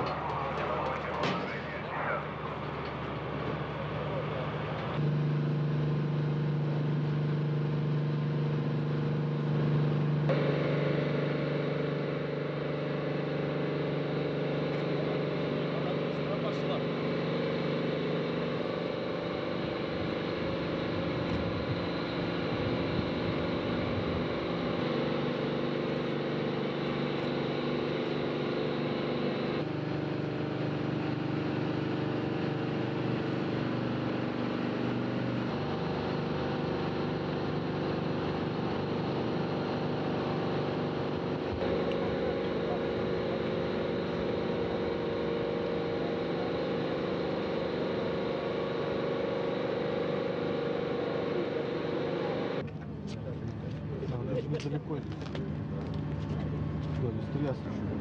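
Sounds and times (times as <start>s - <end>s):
machinery hum: 0.0s - 58.0s.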